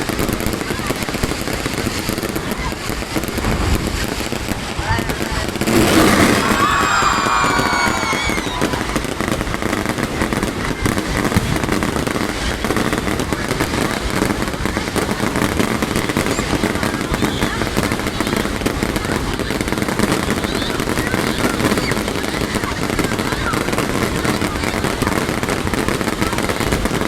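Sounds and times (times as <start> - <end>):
fireworks crackling and popping: 0.0 - 27.0.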